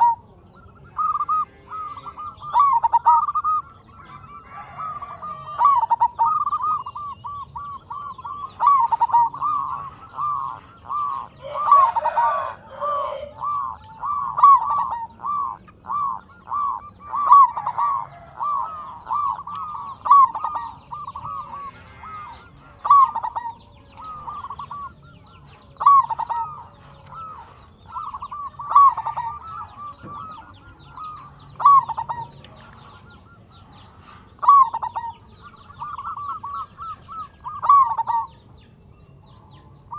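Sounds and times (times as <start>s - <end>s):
dove cooing: 0.0s - 38.6s.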